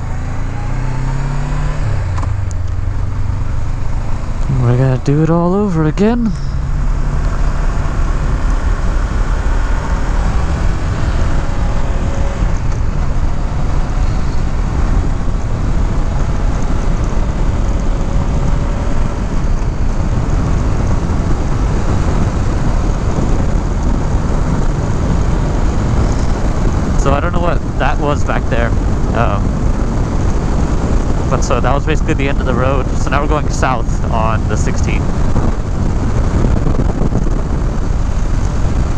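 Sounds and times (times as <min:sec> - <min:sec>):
motorcycle engine running: 0:00.0 - 0:38.9
wind rush on microphone: 0:00.6 - 0:38.9.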